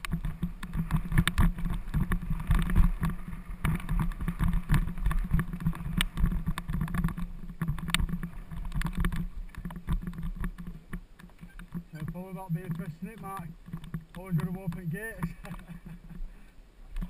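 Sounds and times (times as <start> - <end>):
bike clattering over stone path: 0.0 - 15.8.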